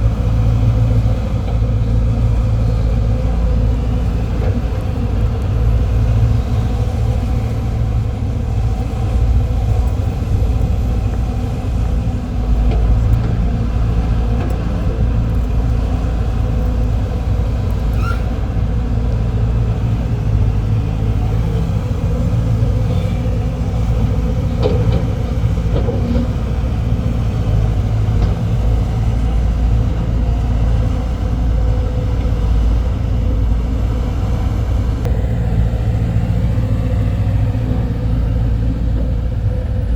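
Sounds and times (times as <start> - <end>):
excavator diesel engines running: 0.0 - 39.9.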